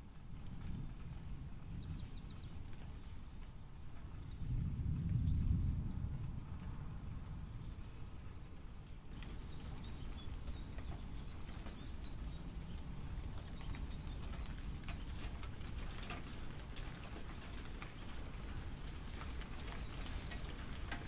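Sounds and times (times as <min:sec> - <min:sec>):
rain pattering: 0:00.0 - 0:21.0.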